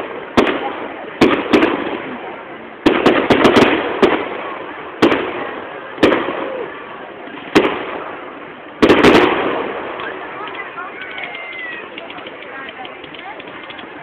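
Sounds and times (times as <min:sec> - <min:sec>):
fireworks bangs echoing: 0:00.0 - 0:14.0
fireworks cracks: 0:00.0 - 0:14.0.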